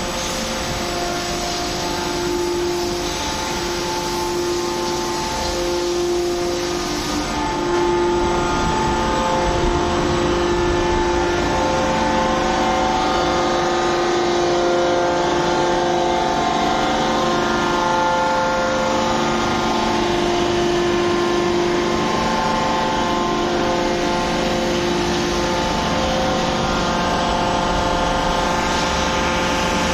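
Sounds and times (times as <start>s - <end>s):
hydraulic pumps humming and whining: 0.0s - 29.9s.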